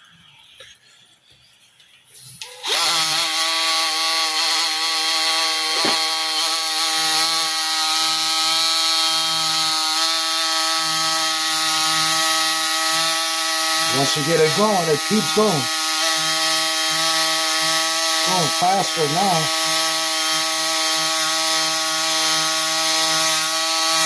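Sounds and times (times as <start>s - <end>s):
power sander whining: 2.4s - 24.0s.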